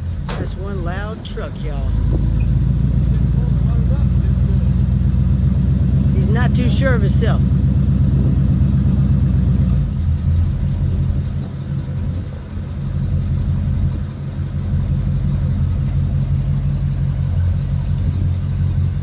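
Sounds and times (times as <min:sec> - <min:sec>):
truck engine low rumble: 0:00.0 - 0:19.0.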